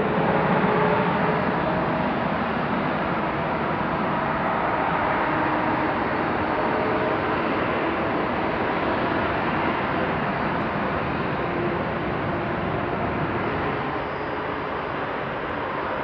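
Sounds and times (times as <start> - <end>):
faint jet engine whine: 0.0 - 16.0
jet engines rumble and hiss: 0.0 - 16.0.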